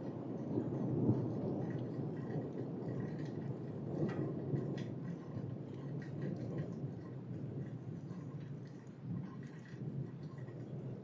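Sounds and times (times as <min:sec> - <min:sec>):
low rolling thunder: 0:00.0 - 0:11.0
faint ticks: 0:00.4 - 0:11.0.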